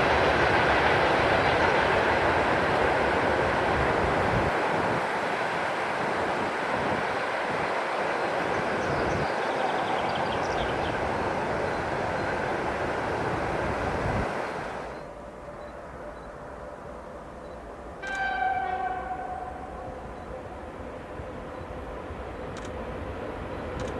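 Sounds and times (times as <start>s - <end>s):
freight train rolling past: 0.0s - 23.9s.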